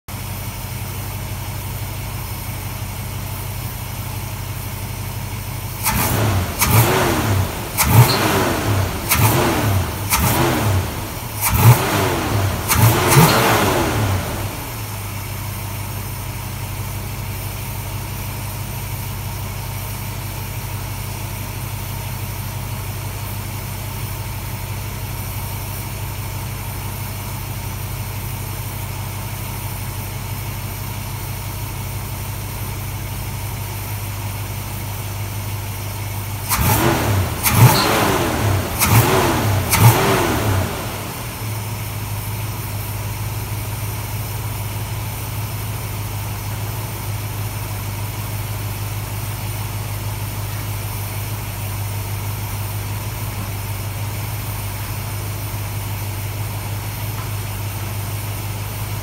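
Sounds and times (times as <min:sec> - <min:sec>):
car engine idling and revving: 0:00.1 - 0:59.0.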